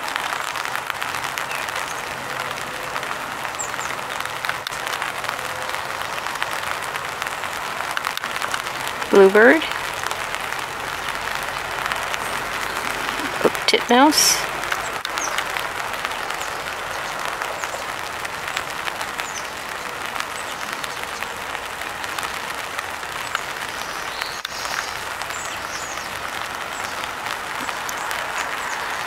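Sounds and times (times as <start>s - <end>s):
rain tapping on an umbrella: 0.0s - 29.0s.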